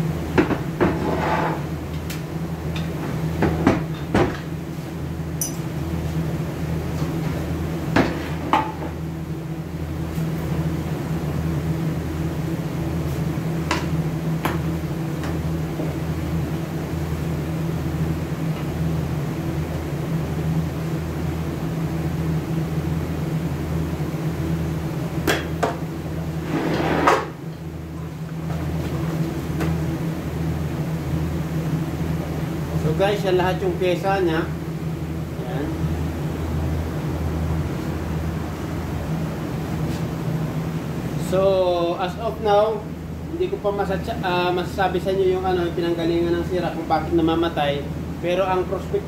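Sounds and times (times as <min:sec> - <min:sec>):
low throbbing machine hum: 0:01.6 - 0:49.0.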